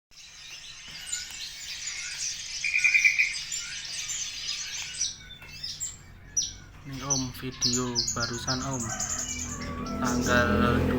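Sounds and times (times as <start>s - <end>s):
bird twittering song: 0.1s - 10.9s.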